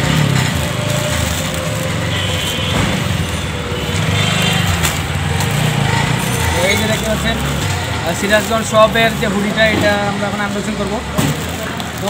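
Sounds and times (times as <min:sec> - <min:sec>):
small engine droning: 0:00.0 - 0:09.7
plastic bag crinkling: 0:00.0 - 0:12.0.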